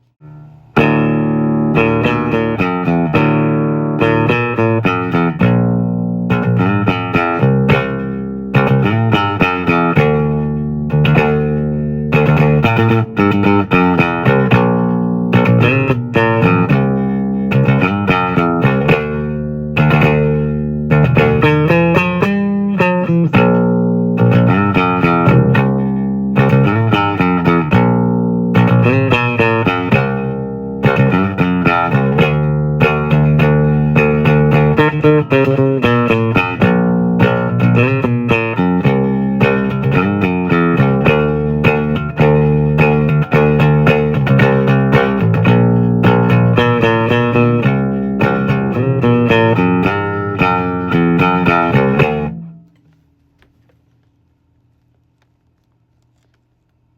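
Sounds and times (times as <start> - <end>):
held low bass notes: 0.0 - 52.8
plucked guitar notes: 0.0 - 53.0.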